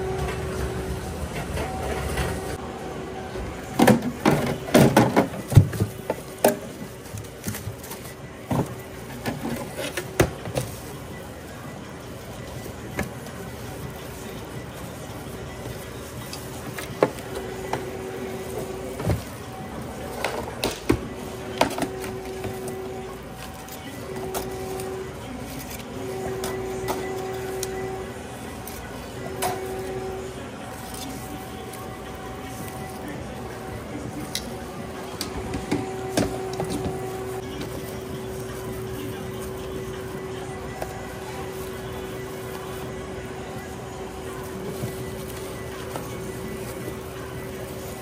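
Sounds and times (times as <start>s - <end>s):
steady hum: 0.0s - 48.0s.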